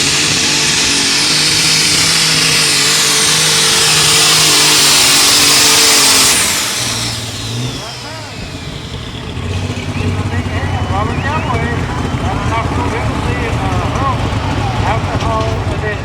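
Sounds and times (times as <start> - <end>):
tractor engine at full throttle: 0.0 - 16.0
turbo whine: 0.0 - 16.0.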